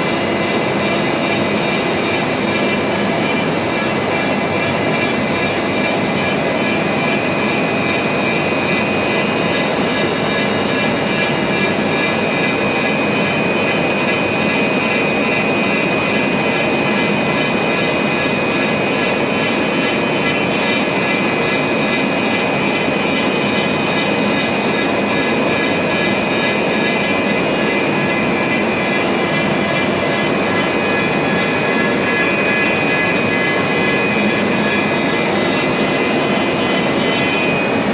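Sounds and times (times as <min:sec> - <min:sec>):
router spindle whine: 0:00.0 - 0:37.9.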